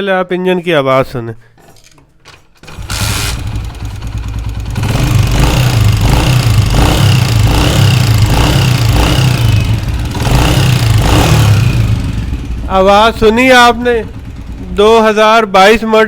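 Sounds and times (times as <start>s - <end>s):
motorcycle engine running: 2.6s - 15.5s.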